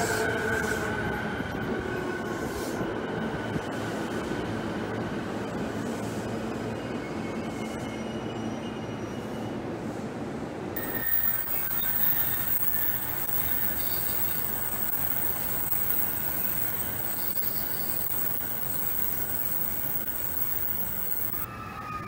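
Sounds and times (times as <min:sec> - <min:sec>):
high-speed train rushing past: 0:00.0 - 0:22.0.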